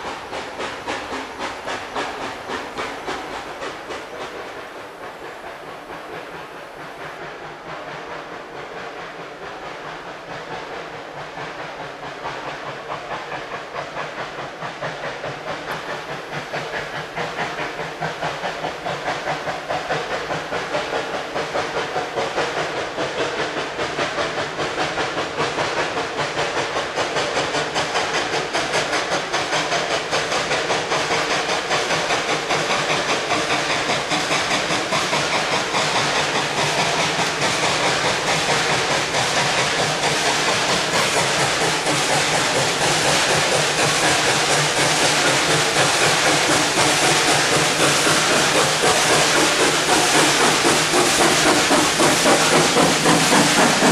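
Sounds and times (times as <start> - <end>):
steam locomotive chuffing: 0.0 - 53.9.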